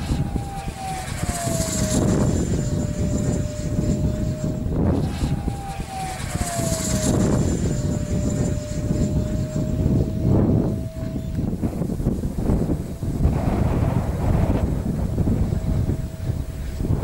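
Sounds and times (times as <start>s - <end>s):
jet engine rumbling flyby: 0.0s - 17.0s
thin falling whine: 0.0s - 17.0s.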